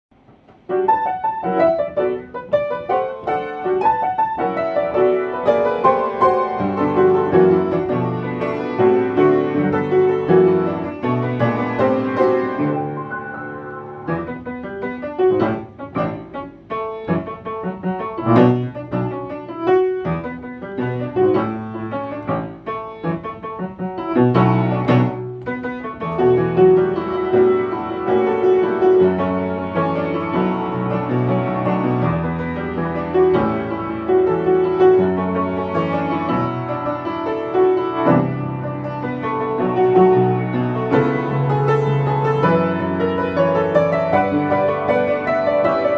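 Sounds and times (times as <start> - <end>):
upright piano playing: 0.1 - 45.9.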